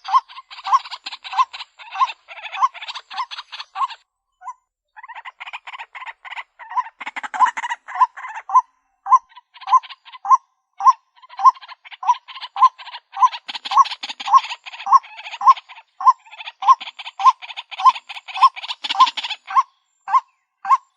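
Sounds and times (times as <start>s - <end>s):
waterhen calling: 0.0s - 4.0s, 5.0s - 20.9s.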